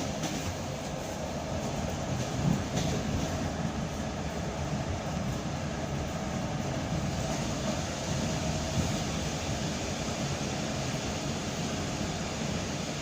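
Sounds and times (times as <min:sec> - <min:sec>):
electric train rumble and hiss: 0:00.0 - 0:13.0.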